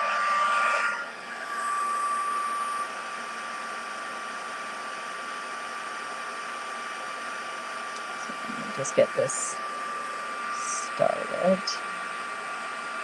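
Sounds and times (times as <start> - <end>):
heat tool fan whine: 0.0 - 13.0.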